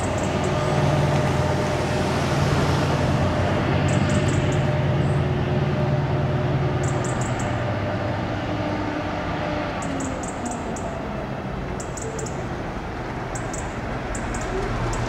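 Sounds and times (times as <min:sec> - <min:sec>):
locomotive engine drone: 0:00.0 - 0:15.0.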